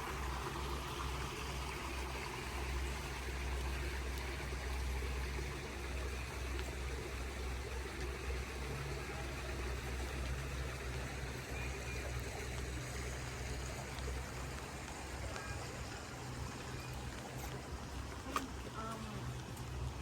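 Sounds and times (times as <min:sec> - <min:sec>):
constant low rumble: 0:00.0 - 0:20.0
steady rain falling: 0:00.0 - 0:20.0.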